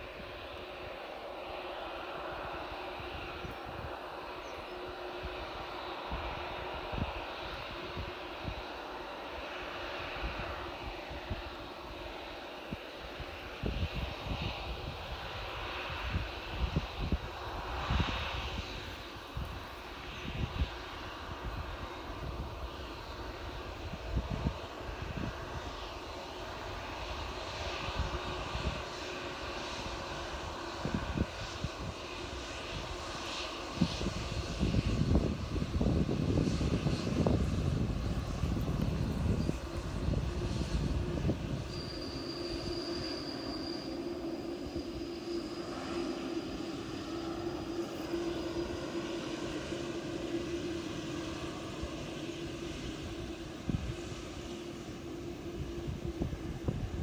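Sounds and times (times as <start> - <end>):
faint high whine: 0.0 - 57.0
jet engines running: 0.0 - 57.0.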